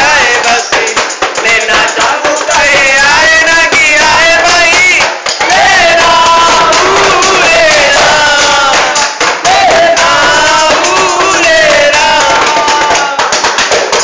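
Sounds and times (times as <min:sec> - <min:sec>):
group of voices singing: 0:00.0 - 0:14.0.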